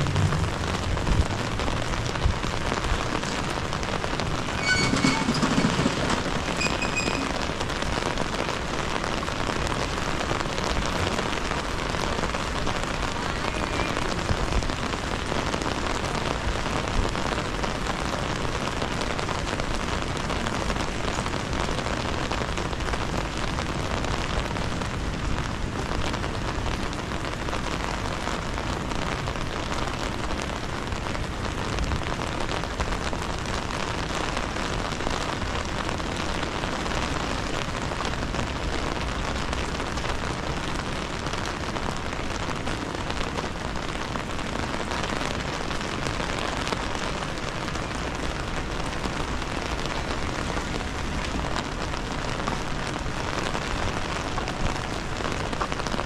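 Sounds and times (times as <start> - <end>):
rain pattering on hard surfaces: 0.0 - 56.0.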